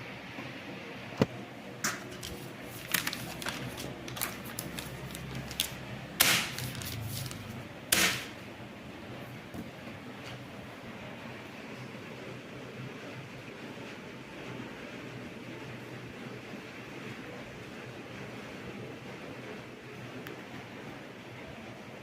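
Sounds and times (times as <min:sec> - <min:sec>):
ceiling fan humming: 0:00.0 - 0:22.0.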